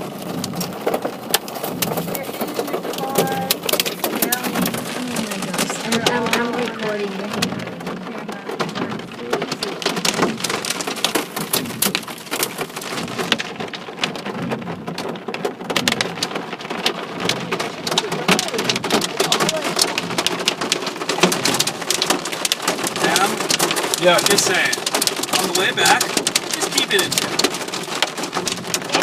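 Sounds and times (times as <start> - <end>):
hailstones pelting a car: 0.0 - 29.0.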